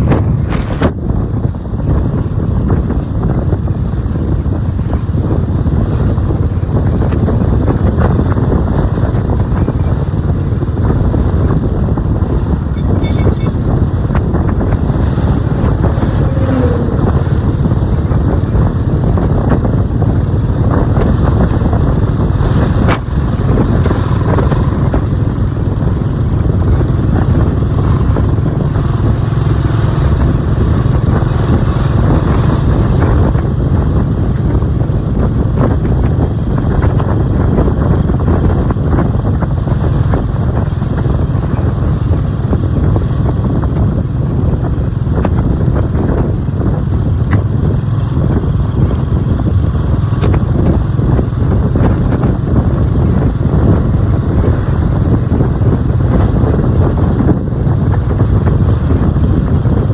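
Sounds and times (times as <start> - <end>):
motorcycle engine: 0.0 - 59.9
road noise: 0.0 - 59.9.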